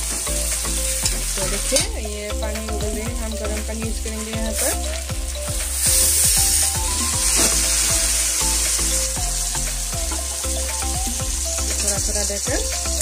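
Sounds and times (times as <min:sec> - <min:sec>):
light background music: 0:00.0 - 0:13.0
meat frying in oil sizzling: 0:00.0 - 0:13.0.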